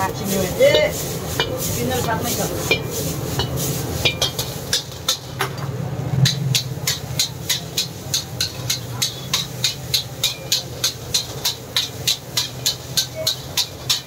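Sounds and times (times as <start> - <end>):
gas burner roar: 0.0 - 14.0
metal spatula scraping wok: 0.0 - 14.0.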